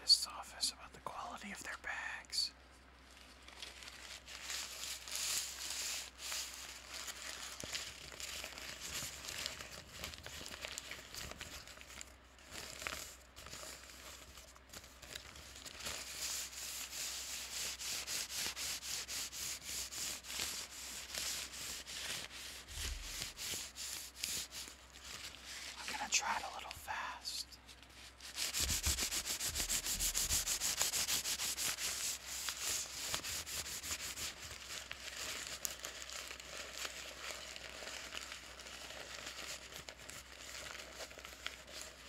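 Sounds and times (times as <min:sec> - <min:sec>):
paper bag crinkling: 0:03.1 - 0:17.5, 0:20.2 - 0:27.2, 0:28.2 - 0:42.0.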